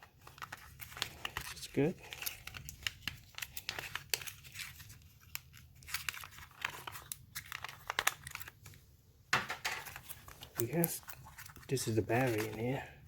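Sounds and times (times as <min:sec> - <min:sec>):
packaging crinkling and tearing: 0:00.0 - 0:08.8, 0:09.8 - 0:12.8.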